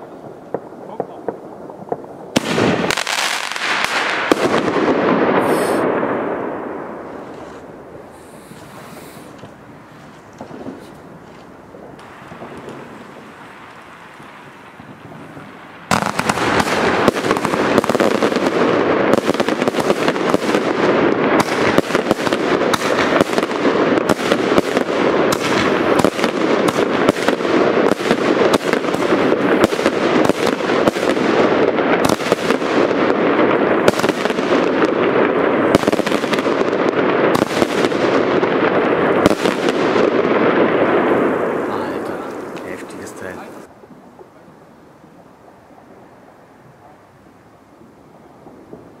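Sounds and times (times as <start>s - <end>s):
firework barrage with crackling: 0.0s - 49.0s.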